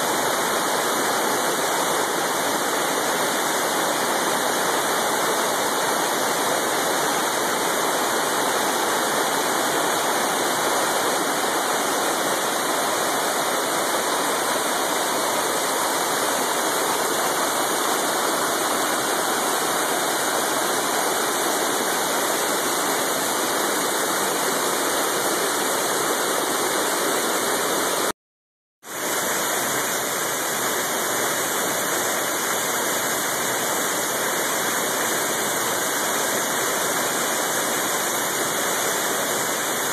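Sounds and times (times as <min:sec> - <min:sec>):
waterfall roaring: 0:00.0 - 0:28.1, 0:28.9 - 0:39.9.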